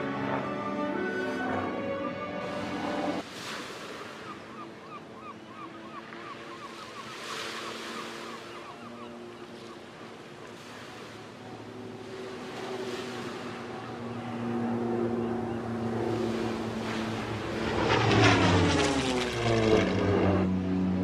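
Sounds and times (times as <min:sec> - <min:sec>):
propeller plane flying past: 0:00.0 - 0:21.0.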